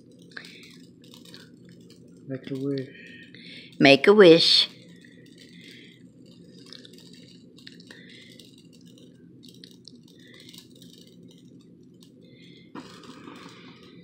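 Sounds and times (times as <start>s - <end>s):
small clicks and rustles: 0.0s - 3.9s, 4.7s - 14.0s
faint steady hum: 0.0s - 14.0s.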